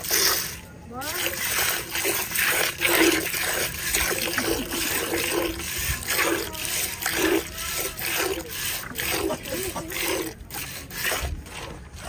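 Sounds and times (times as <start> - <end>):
milk squirting into metal bucket: 0.0 - 12.0.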